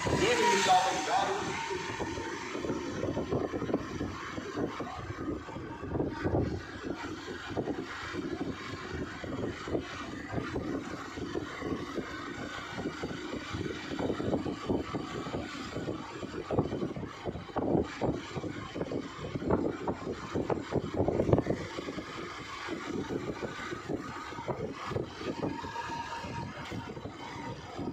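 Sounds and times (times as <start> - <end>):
moving vehicle rumble: 0.0 - 27.9
wind gusting on microphone: 0.0 - 27.9.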